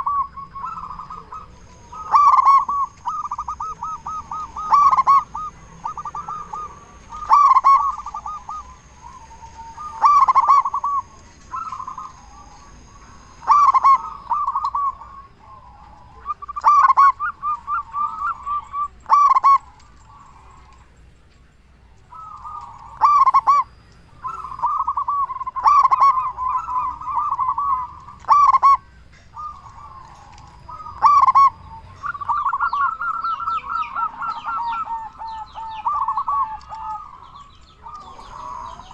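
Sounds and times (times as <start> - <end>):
doves cooing: 0.0 - 21.0, 21.6 - 38.9
faint high whine: 0.0 - 38.9.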